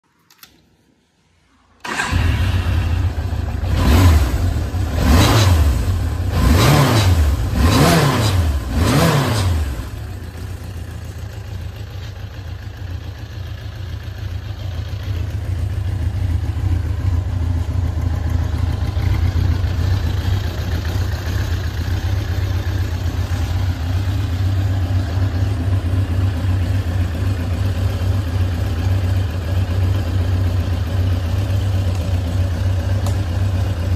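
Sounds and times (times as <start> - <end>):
motorcycle engine starting and revving: 1.8 - 33.9.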